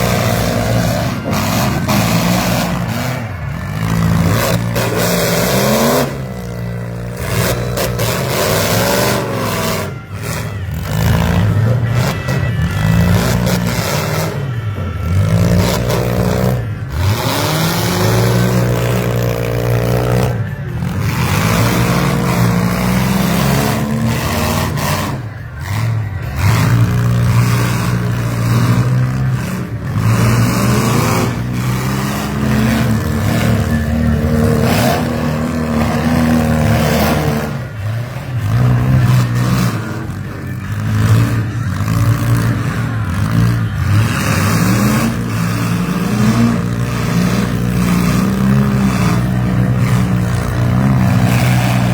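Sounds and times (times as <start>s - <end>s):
engines revving: 0.0s - 51.9s.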